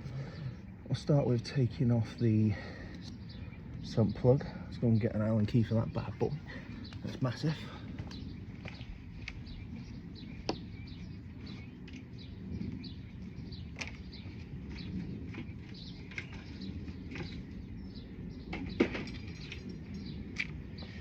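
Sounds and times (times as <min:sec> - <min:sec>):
low background rumble: 0:00.0 - 0:21.0
small birds chirping: 0:00.0 - 0:21.0.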